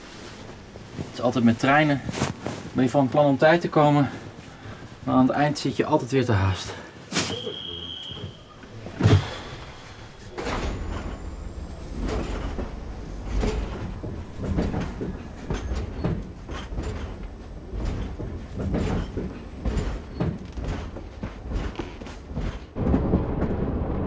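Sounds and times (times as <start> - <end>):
train clanks and knocks: 0.0 - 23.8
train carriage rumble: 0.0 - 24.0.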